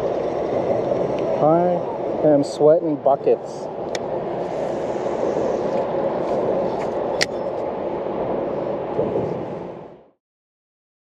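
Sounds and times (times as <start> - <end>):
steady rushing outdoor noise: 0.0 - 10.2.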